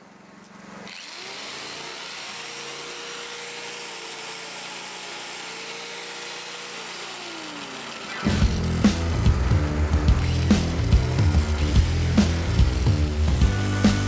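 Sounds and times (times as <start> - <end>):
angle grinder grinding steel: 0.4 - 14.0.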